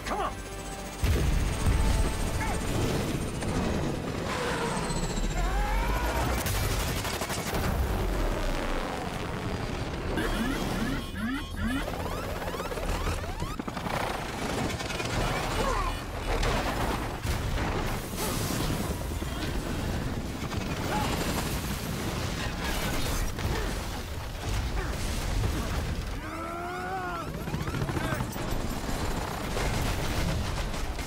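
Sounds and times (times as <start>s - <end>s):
helicopter crashing: 0.2s - 26.2s, 26.8s - 31.0s.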